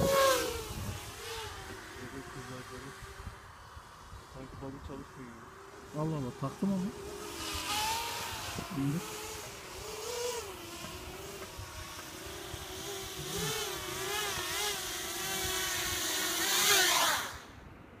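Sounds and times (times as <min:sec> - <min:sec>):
quadcopter motors whining: 0:00.0 - 0:17.9.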